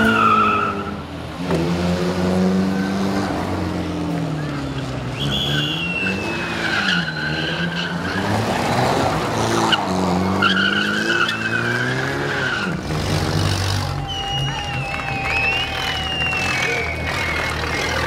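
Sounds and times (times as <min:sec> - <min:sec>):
car engine revving: 0:00.0 - 0:14.6, 0:15.2 - 0:18.0.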